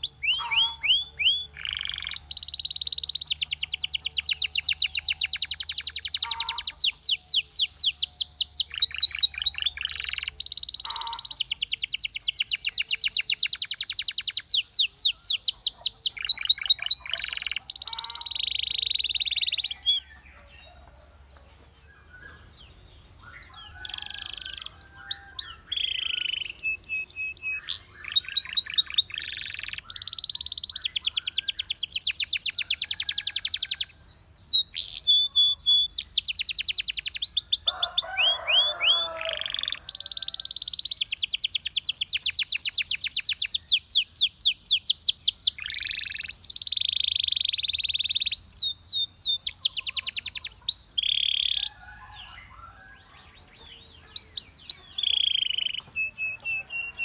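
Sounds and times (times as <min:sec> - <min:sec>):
canary singing: 0:00.0 - 0:21.0, 0:21.8 - 0:57.0.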